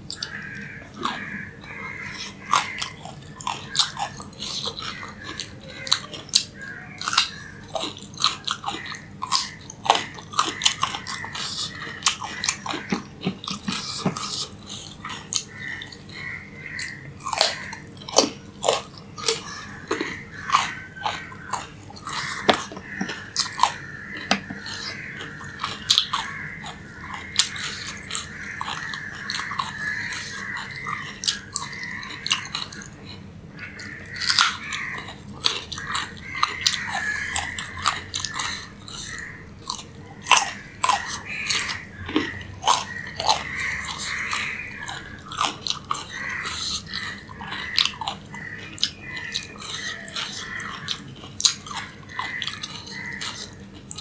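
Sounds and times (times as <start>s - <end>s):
person chewing raw carrot: 0.0s - 54.0s.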